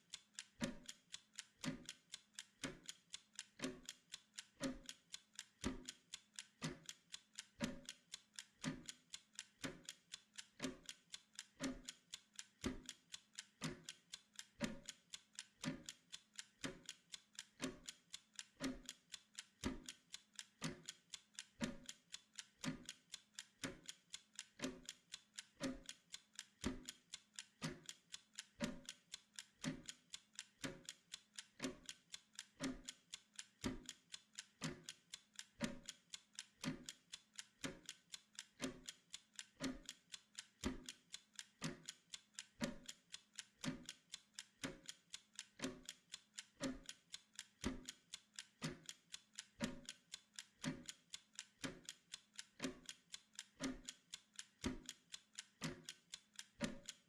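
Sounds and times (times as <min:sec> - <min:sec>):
quick clock ticks: 0:00.0 - 0:57.0.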